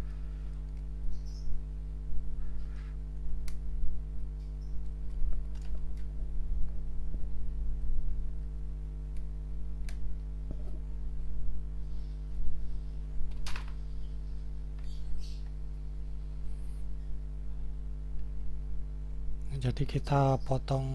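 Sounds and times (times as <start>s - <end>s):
low hum: 0.0s - 20.9s.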